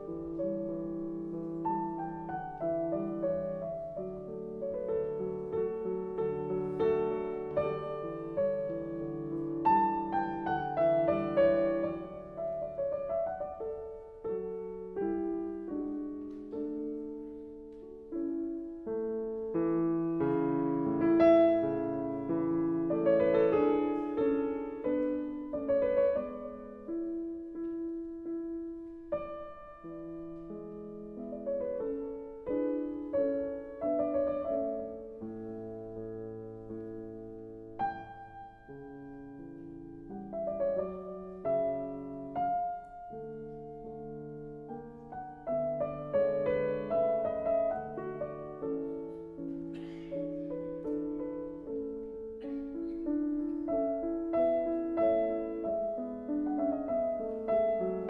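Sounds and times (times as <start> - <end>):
slow piano music: 0.0 - 58.0.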